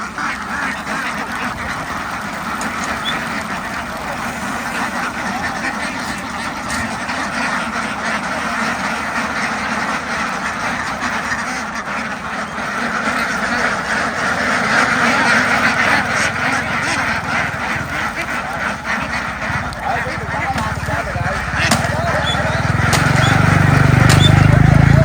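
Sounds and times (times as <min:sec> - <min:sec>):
flock of ducks quacking: 0:00.0 - 0:25.0.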